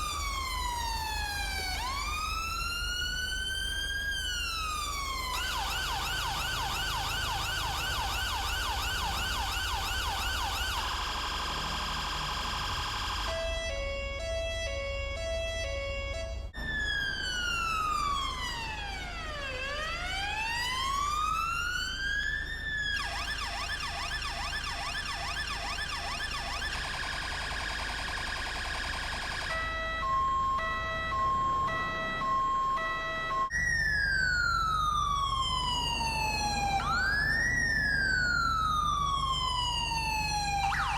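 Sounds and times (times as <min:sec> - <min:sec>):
police siren cycling tones: 0:00.0 - 0:40.9.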